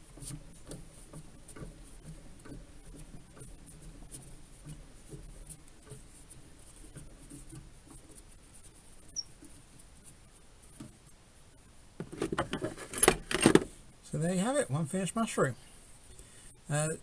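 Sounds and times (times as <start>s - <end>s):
scratching and rustling handling: 0.0s - 16.1s.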